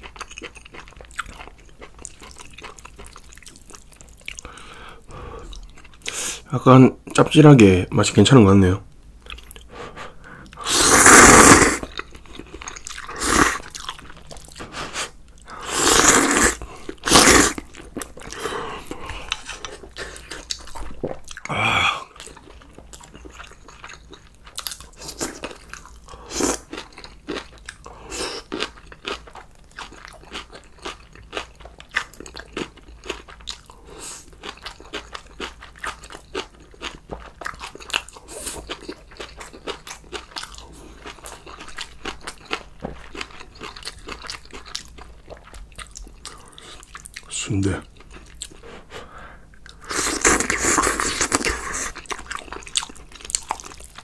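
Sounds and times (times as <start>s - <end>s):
chewing and crunching: 0.0s - 4.6s, 11.8s - 21.5s, 22.1s - 54.0s.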